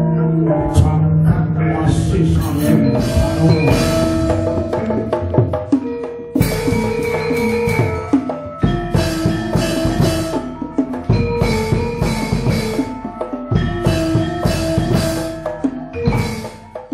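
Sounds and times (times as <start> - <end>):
gamelan music: 0.0 - 16.9
struck pitched keys melody: 0.0 - 16.9
drums: 0.6 - 16.9.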